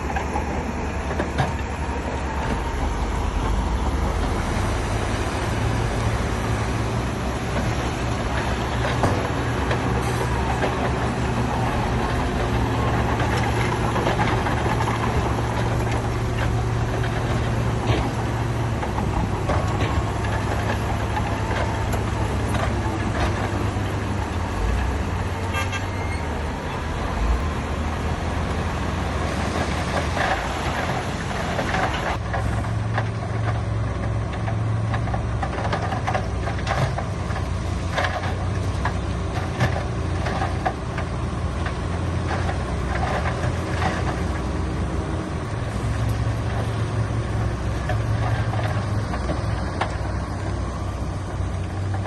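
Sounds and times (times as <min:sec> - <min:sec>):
heavy machinery diesel engines running: 0:00.0 - 0:52.0.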